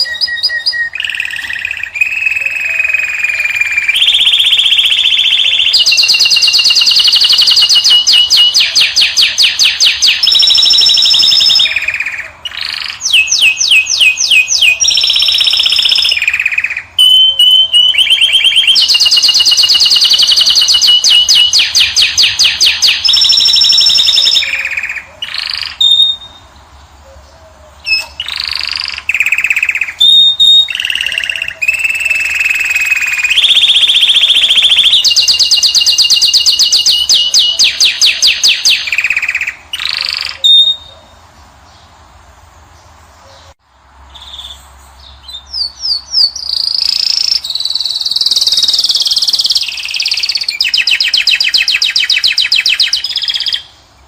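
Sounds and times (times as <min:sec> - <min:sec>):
finch singing trills: 0:00.0 - 0:41.9, 0:42.8 - 0:53.8.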